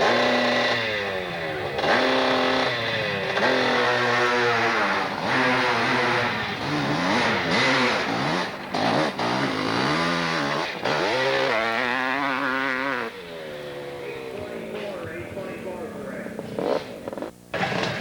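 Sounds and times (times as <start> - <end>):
motorcycle engine revving hard: 0.0 - 15.2, 16.4 - 18.0.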